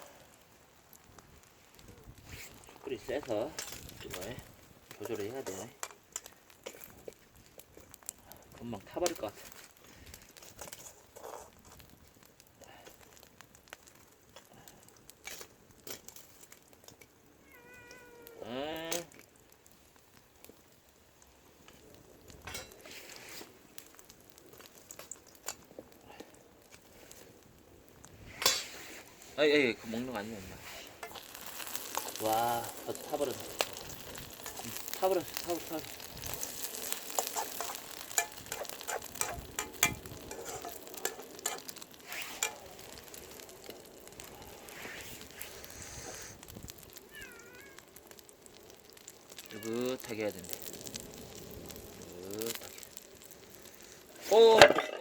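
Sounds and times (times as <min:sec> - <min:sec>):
batter sizzling in frying pan: 0:00.0 - 0:55.0.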